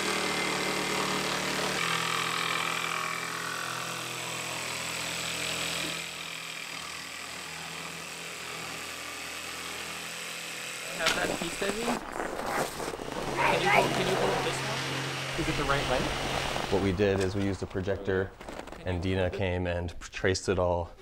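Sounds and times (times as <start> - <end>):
jigsaw cutting plywood: 0.0 - 17.3.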